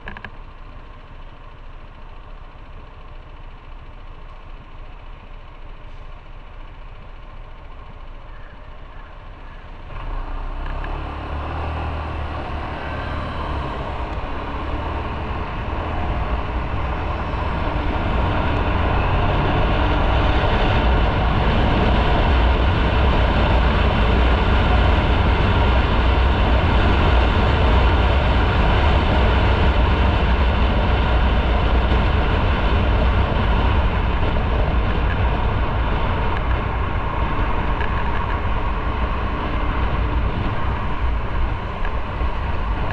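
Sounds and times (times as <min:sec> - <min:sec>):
motorcycle engine accelerating: 0:00.0 - 0:42.9
road and wind noise: 0:00.0 - 0:42.9.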